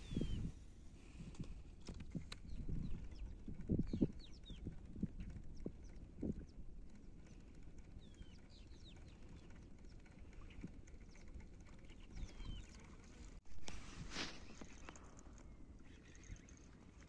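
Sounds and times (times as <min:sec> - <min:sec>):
faint bird chirps: 0:00.0 - 0:00.6, 0:02.2 - 0:13.3, 0:14.0 - 0:17.0.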